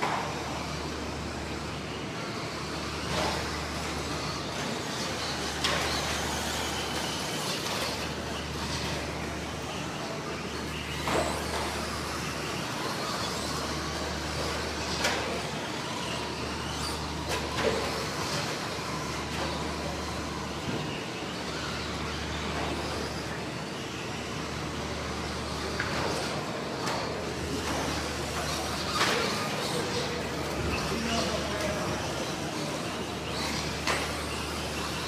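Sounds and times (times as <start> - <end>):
small motors and tyres on dirt: 0.2 - 35.0.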